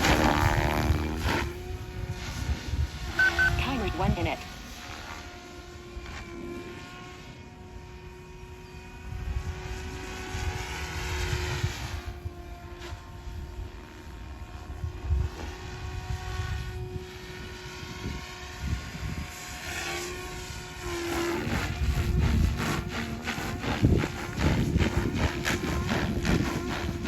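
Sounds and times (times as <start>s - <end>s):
rc helicopter whine: 0.0s - 27.0s.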